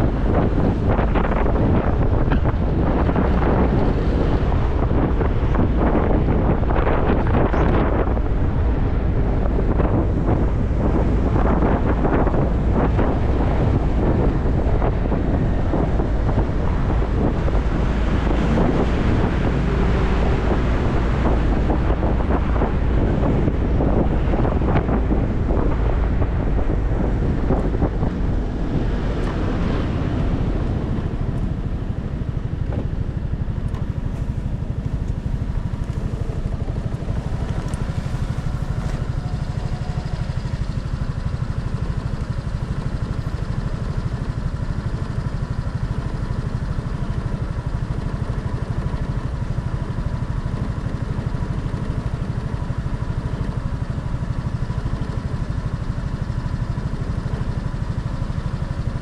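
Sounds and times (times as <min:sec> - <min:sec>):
wind rush on microphone: 0:00.0 - 0:59.0
motorcycle engine idling: 0:08.3 - 0:59.0.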